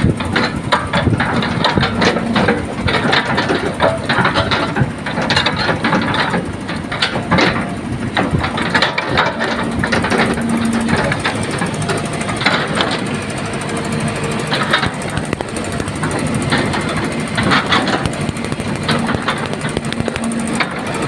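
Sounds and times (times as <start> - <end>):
excavator diesel engine running: 0.0 - 21.0
machine clanks and knocks: 0.0 - 21.0.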